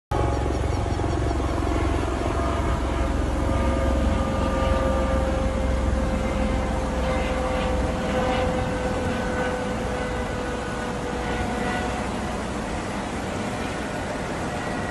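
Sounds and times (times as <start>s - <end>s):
engine drone: 0.1s - 14.9s.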